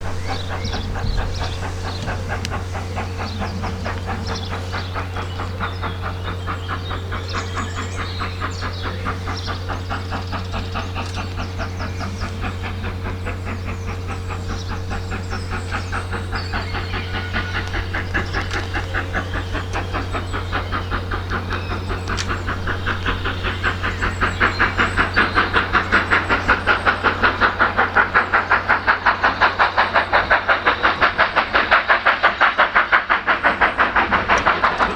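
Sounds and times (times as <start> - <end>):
steady low hum: 0.0 - 34.9
steam locomotive exhaust beats: 0.0 - 34.9.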